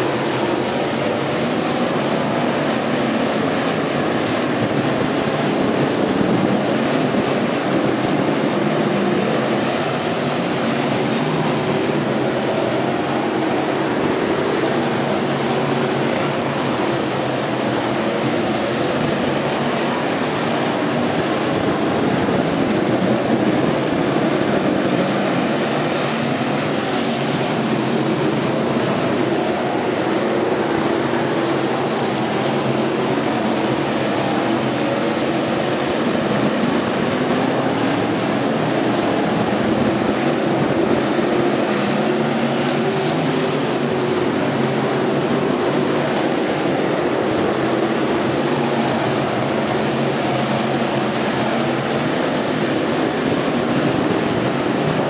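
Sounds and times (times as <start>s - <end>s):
stock car engines droning: 0.0s - 55.0s.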